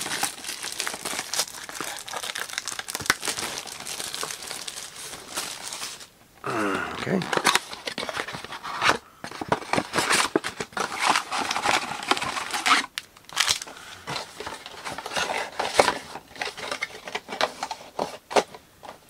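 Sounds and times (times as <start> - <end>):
packaging rustling and tearing: 0.0 - 6.1, 7.0 - 18.6.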